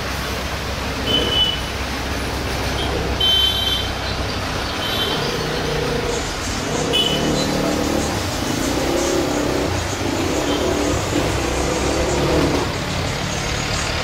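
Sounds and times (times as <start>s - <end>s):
distant jet engines rumbling: 0.0s - 14.0s.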